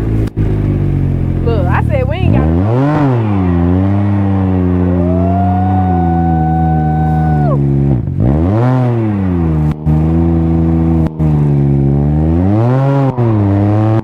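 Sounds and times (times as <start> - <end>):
loud motorcycle engine revving: 0.0 - 14.0.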